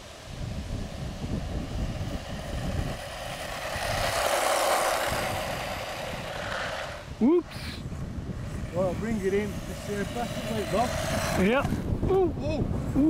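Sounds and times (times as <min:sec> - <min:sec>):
toy truck motor and tyres: 0:00.0 - 0:12.1
wind buffeting microphone: 0:00.0 - 0:13.0.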